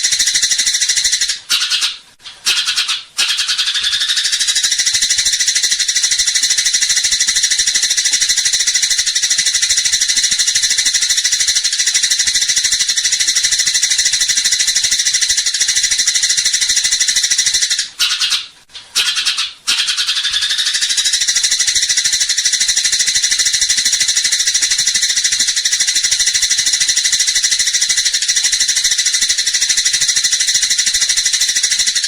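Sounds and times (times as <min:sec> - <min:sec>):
sparrow rapid high chatter: 0:00.0 - 0:32.0.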